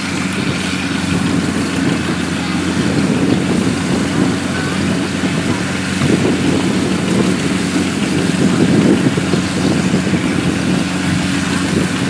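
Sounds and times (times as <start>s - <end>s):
farm machine engine running: 0.0s - 12.0s.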